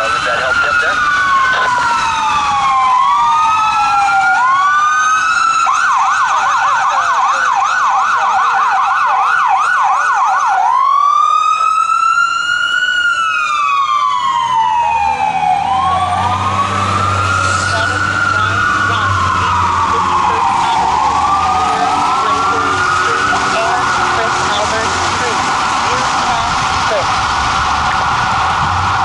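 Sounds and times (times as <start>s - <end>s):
fire truck siren wailing and yelping: 0.0s - 29.0s
truck engine rumble: 0.0s - 29.0s.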